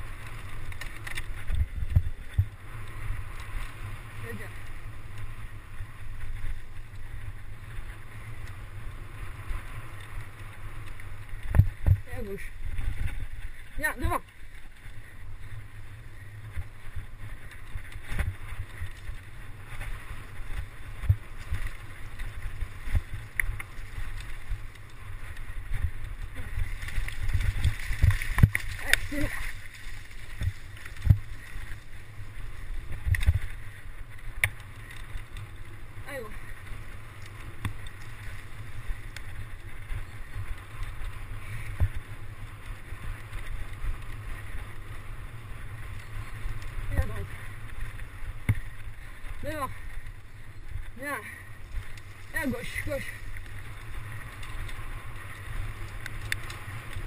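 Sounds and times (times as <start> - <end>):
bike knocking and rattling: 0.0 - 57.0
wind noise on microphone: 0.0 - 57.0.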